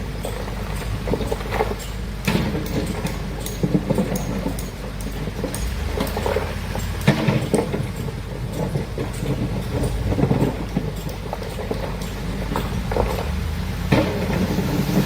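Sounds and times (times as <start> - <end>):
excavator diesel engine running: 0.0 - 15.0
machine knocks and clatter: 0.0 - 15.0.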